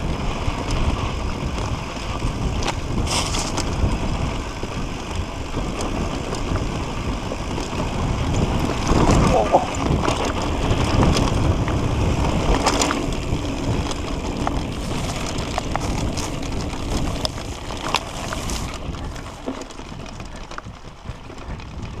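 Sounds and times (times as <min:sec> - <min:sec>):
bike clicks and rattles: 0:00.0 - 0:22.0
tyres rolling over dirt: 0:00.0 - 0:22.0
wind buffeting microphone: 0:00.0 - 0:22.0.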